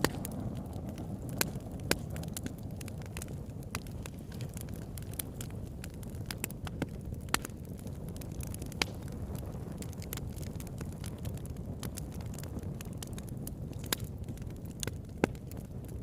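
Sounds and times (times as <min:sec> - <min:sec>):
burning wood crackling: 0:00.0 - 0:16.0
campfire flames rumbling: 0:00.0 - 0:16.0.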